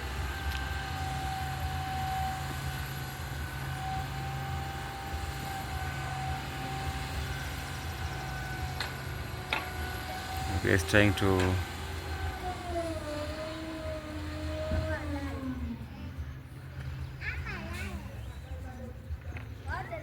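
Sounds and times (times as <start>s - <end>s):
thin steady whine: 0.0s - 20.0s
truck engine running: 0.0s - 20.0s.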